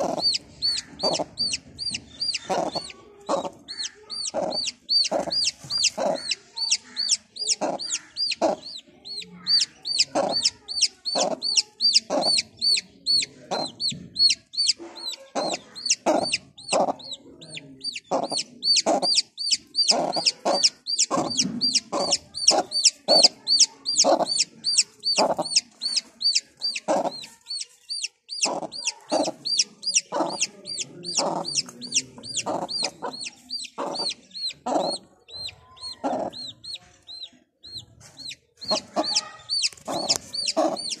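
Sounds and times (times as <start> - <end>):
chick peeping: 0.0 - 41.0
hen clucking: 0.0 - 41.0.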